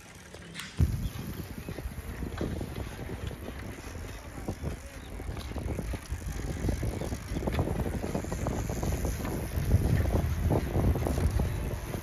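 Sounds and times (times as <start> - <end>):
bicycle clicks and rattles: 0.0 - 12.0
bicycle tyres rumbling on concrete: 0.0 - 12.0.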